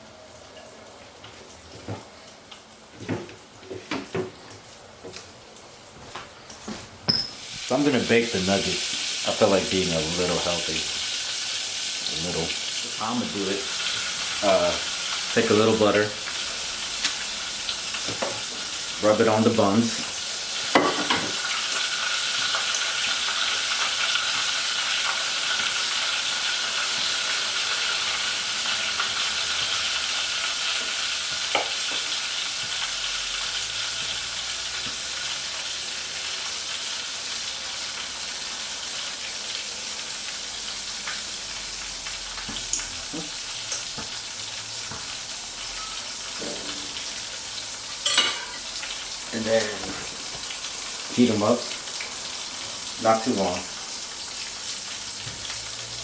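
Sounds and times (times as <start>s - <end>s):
chicken deep-frying in oil: 7.1s - 56.0s.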